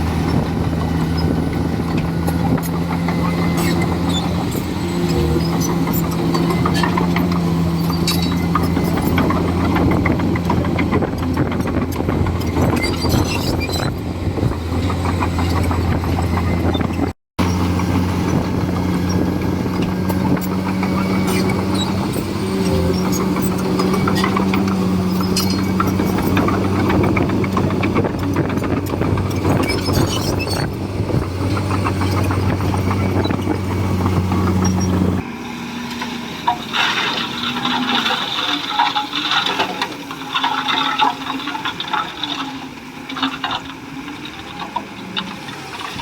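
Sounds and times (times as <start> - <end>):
bulldozer diesel engine: 0.0 - 46.0.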